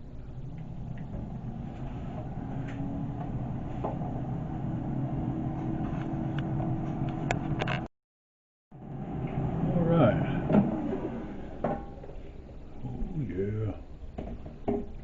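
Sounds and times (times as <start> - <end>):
air fryer fan hum: 0.0 - 7.7, 8.7 - 14.2.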